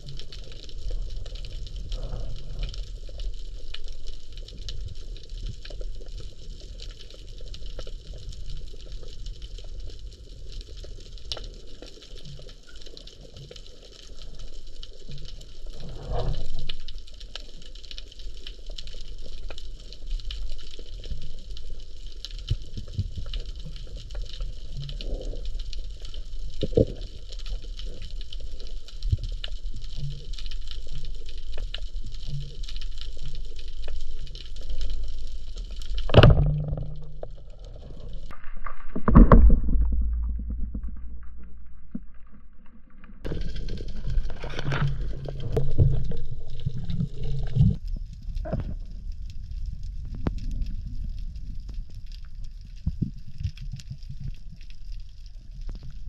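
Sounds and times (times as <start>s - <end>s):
low rumbling water noise: 0.0s - 56.0s.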